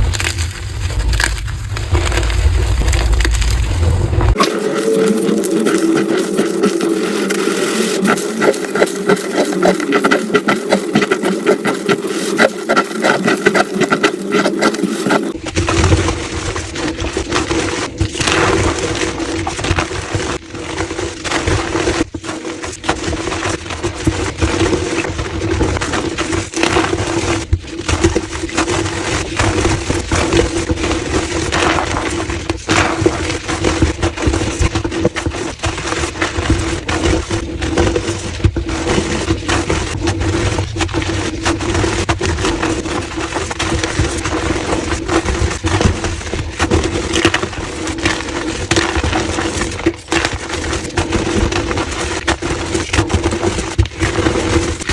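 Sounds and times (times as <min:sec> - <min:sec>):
chalk crunching and crackling: 0:00.0 - 0:54.9.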